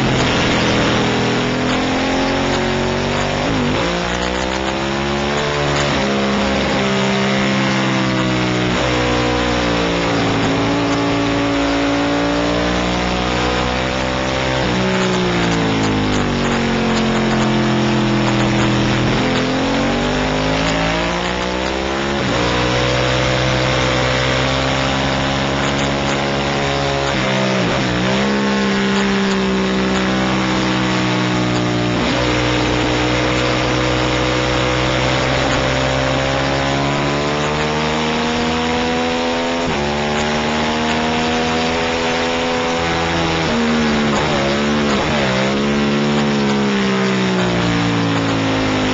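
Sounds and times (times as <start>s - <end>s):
racing motorcycle engine revving: 0.0s - 48.9s.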